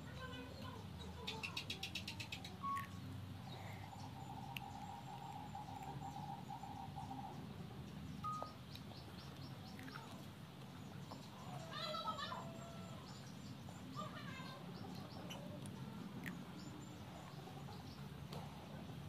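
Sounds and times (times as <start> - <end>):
faint bird chirps: 0.0 - 19.0
low steady hum: 2.4 - 19.0.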